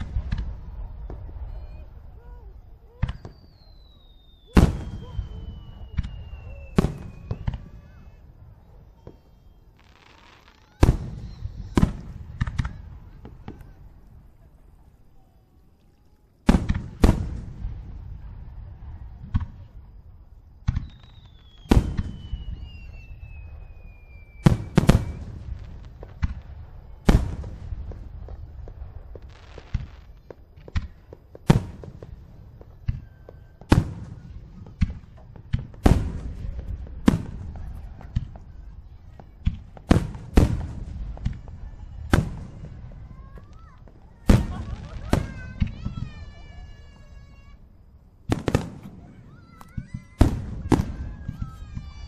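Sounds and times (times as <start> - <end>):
firework bangs: 0.0 - 15.0, 16.4 - 52.0.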